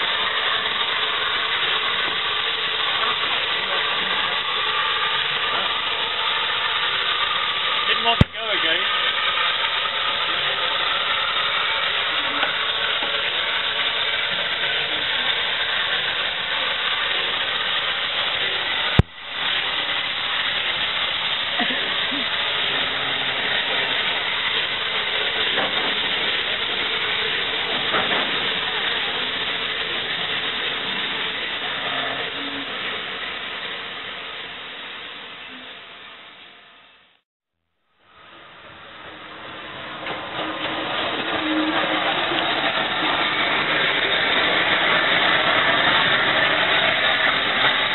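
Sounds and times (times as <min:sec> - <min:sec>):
steam hissing from locomotive: 0:00.0 - 0:37.2, 0:38.0 - 0:47.9.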